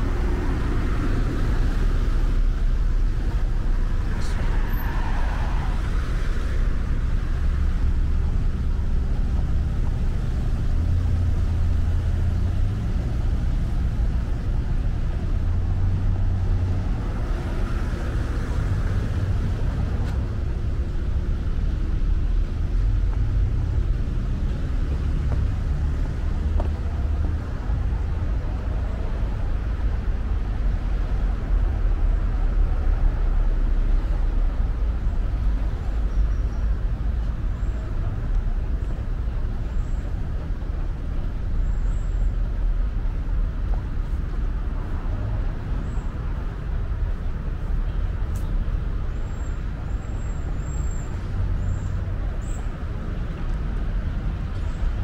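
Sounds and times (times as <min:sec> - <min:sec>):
low rumble of road traffic: 0:00.0 - 0:55.0.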